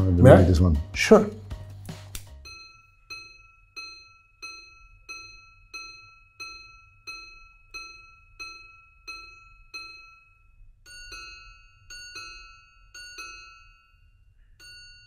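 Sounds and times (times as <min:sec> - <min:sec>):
watch chiming on a gong: 0:02.4 - 0:15.0.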